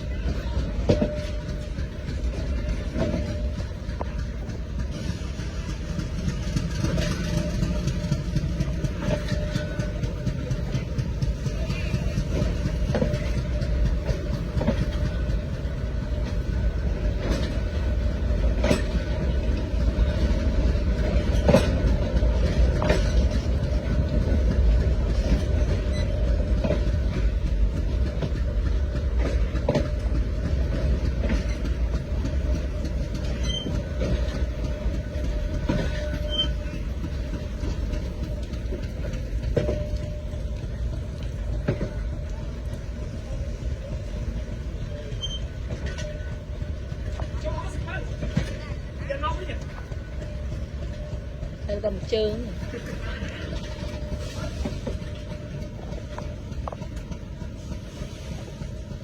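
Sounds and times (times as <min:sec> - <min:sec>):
train rumbling: 0:00.0 - 0:59.0
wheels clacking over rail joints: 0:00.0 - 0:59.0.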